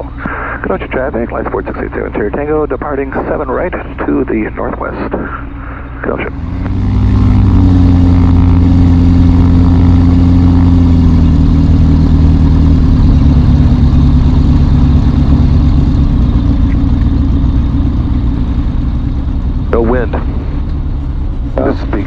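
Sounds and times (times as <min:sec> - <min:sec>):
light airplane engine and propeller: 0:00.0 - 0:22.0.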